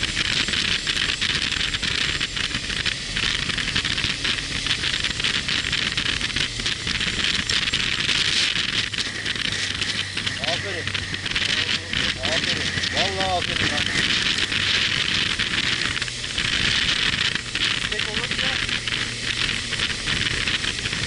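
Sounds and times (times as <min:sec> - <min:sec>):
motorcycle engine hum: 0:00.0 - 0:21.0
wind buffeting microphone: 0:00.0 - 0:21.0.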